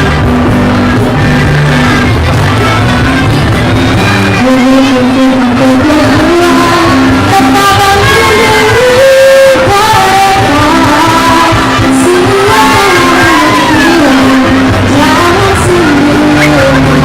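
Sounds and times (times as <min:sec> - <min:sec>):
voices singing with instruments: 0:00.0 - 0:17.0.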